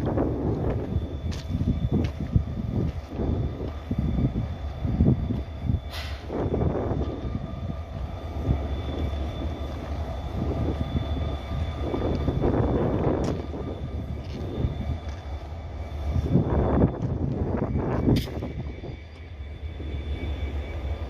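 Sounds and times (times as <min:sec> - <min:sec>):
diesel locomotive engine running: 0:00.0 - 0:21.0
faint steady whine: 0:00.0 - 0:21.0.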